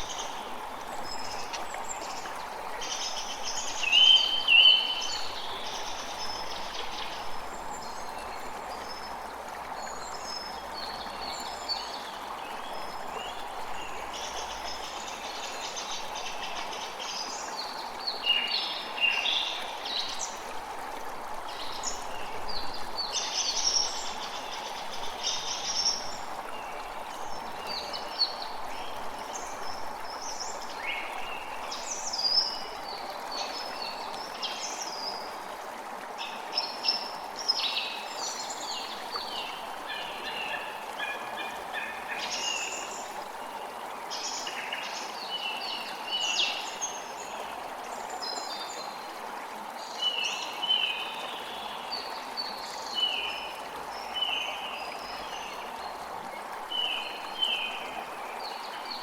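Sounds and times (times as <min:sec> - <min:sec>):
creek running: 0:00.0 - 0:59.0.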